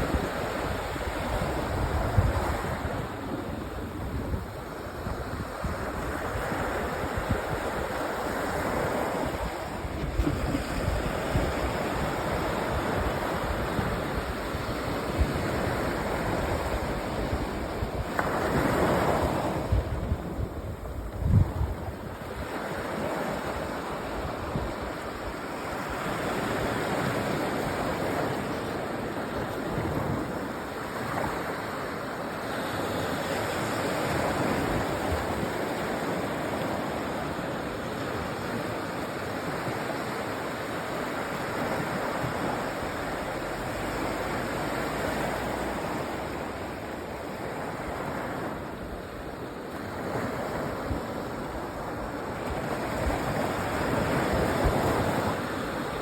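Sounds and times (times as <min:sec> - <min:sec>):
waves washing onto sandy beach: 0:00.0 - 0:56.0.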